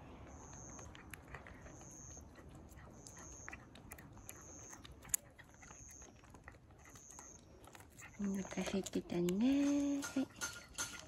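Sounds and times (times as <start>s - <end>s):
cat licking and chewing: 0.0s - 11.0s.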